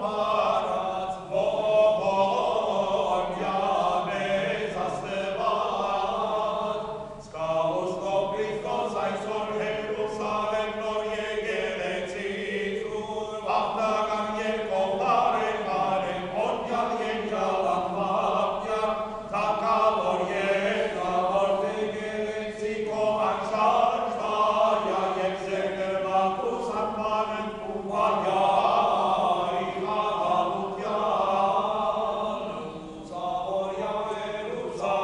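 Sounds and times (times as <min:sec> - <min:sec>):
men's choir chanting: 0:00.0 - 0:35.0.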